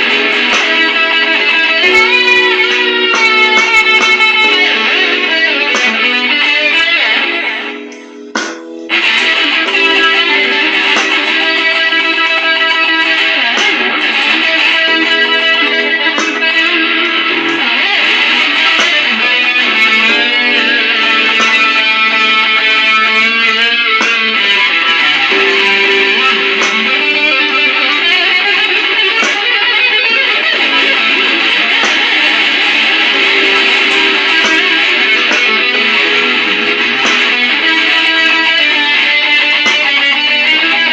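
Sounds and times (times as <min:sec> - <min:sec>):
electric guitar playing blues: 0:00.0 - 0:40.9.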